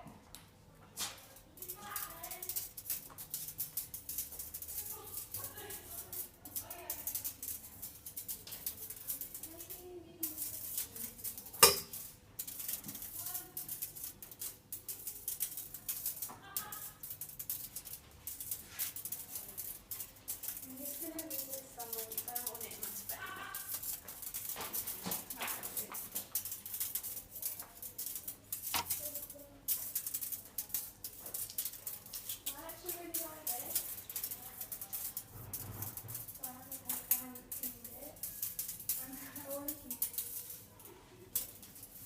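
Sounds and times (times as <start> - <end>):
metal sphere rattling: 1.6 - 42.0.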